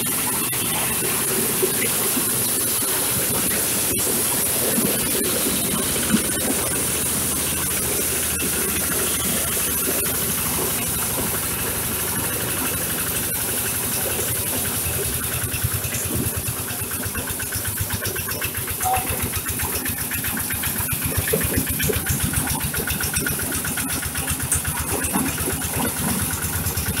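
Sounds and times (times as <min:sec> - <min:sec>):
diesel engine throbbing: 0:00.0 - 0:27.0.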